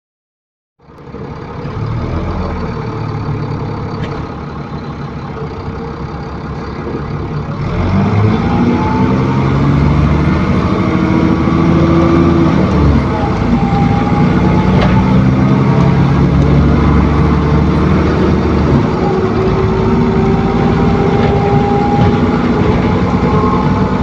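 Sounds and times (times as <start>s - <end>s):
bus engine revving with whine: 1.5s - 6.1s, 6.8s - 24.0s.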